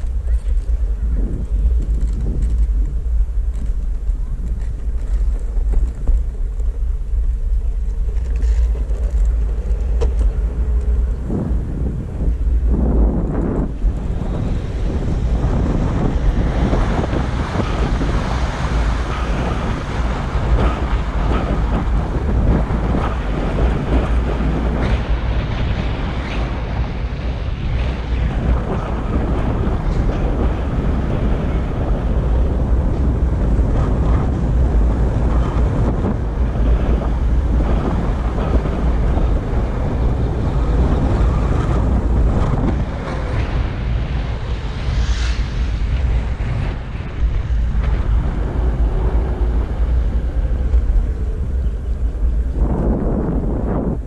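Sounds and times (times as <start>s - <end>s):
skateboard wheels road noise: 0.0s - 54.0s
wind rumble on microphone: 0.0s - 54.0s.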